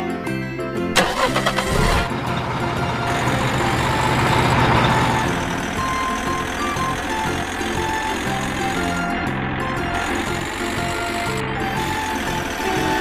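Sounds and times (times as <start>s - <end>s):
background music: 0.0s - 13.0s
vehicle engine: 1.0s - 13.0s.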